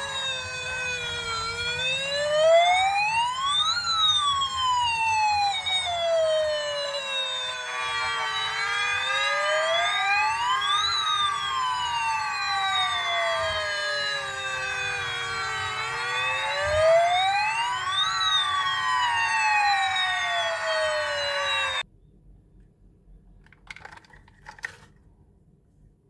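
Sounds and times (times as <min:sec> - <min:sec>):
toy siren wailing: 0:00.0 - 0:21.8.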